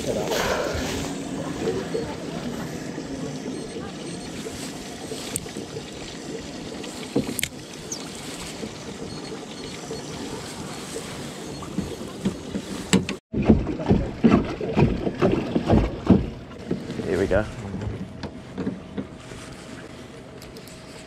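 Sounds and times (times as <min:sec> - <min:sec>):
water washing against boat: 0:00.0 - 0:21.0.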